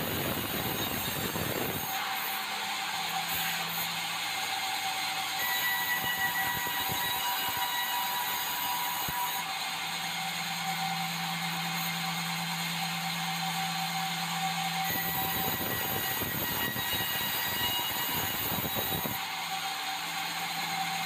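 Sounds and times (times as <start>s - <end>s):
band saw sawing timber: 0.0s - 21.0s.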